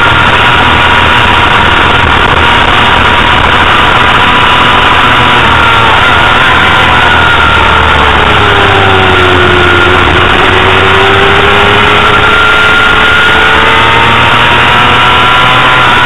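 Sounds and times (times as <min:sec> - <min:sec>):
motorcycle engine revving: 0:00.0 - 0:16.0
rushing wind noise: 0:00.0 - 0:16.0.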